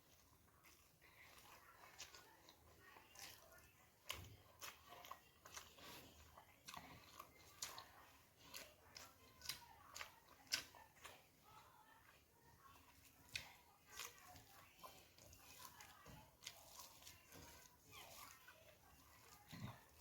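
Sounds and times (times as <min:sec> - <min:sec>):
person chewing and crunching: 0:00.0 - 0:20.0.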